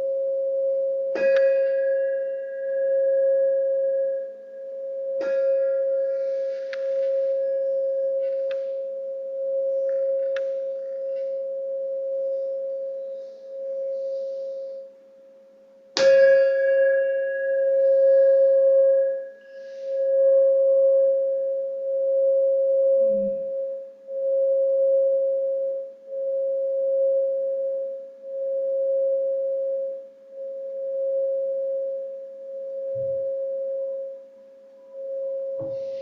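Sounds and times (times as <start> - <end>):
singing bowl ringing: 0.0 - 36.0
steady pure tone: 0.0 - 36.0.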